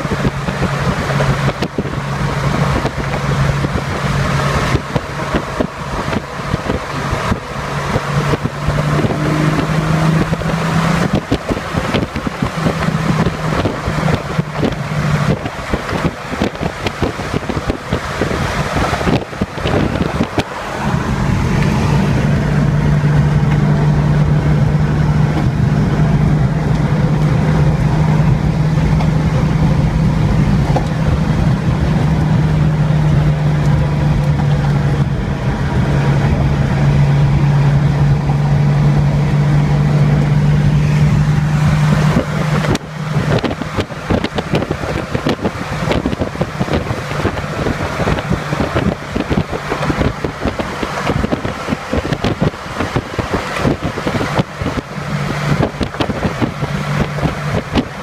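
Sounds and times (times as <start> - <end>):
deep drone: 0.0 - 58.0
wind buffeting microphone: 0.0 - 58.0.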